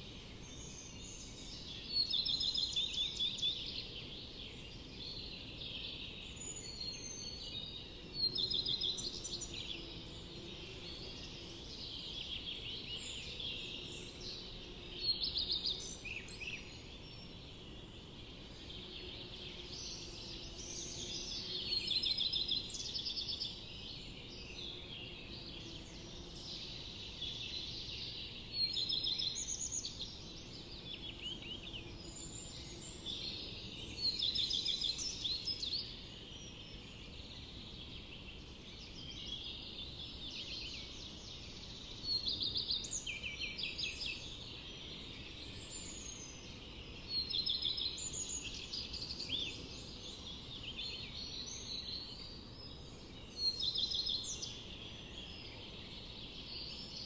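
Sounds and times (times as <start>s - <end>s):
songbirds singing: 0.0s - 57.0s
steady low background noise: 0.0s - 57.0s.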